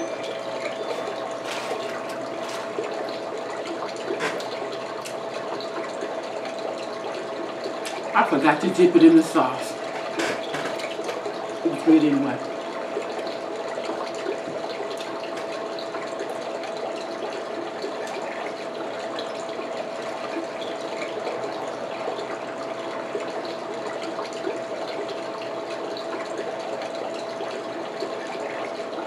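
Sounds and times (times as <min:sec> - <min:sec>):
constant hum tone: 0:00.0 - 0:29.0.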